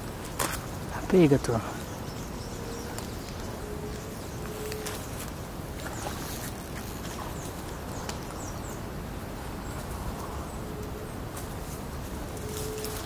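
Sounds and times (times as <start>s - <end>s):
low rumbling outdoor noise: 0.0s - 13.0s.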